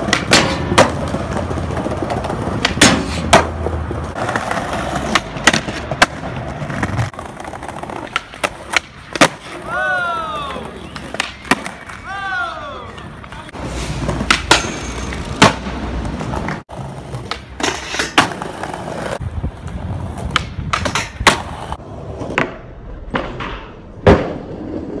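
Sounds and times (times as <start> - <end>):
skateboard pops and clacks: 0.0 - 9.7, 10.4 - 12.1, 14.1 - 19.2, 20.1 - 25.0
skateboard wheels rolling on stone: 0.0 - 25.0.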